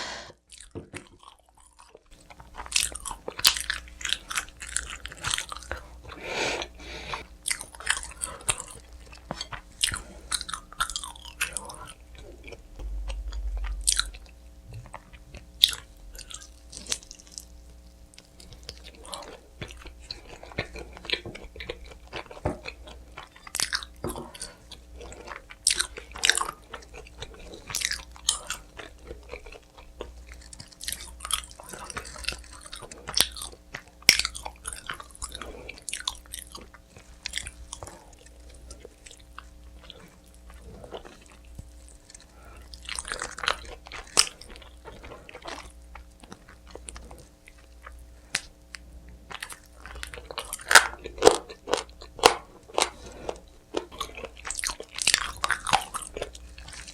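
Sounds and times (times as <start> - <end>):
faint steady hum: 0.0 - 56.9
crunchy chewing of pizza: 0.1 - 56.9.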